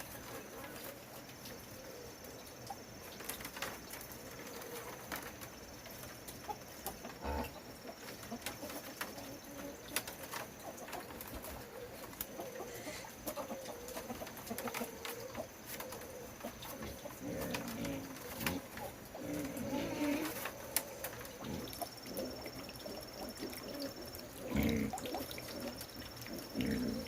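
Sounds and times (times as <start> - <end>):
birds cooing: 0.0 - 27.0.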